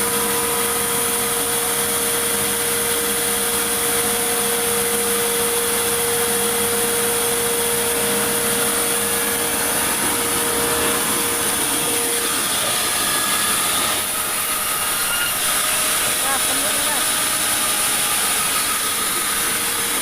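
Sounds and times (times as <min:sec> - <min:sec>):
saw cutting through wood: 0:00.0 - 0:20.0.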